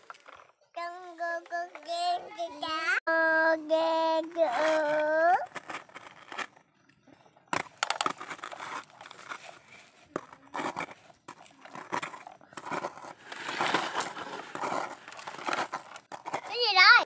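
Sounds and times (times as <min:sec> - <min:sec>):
toy trucks scraping through dirt: 0:00.0 - 0:17.0.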